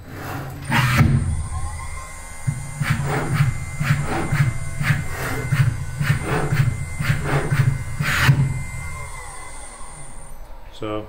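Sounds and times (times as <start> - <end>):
servo drive strokes: 0.0 - 10.6
spindle whine: 0.0 - 11.0.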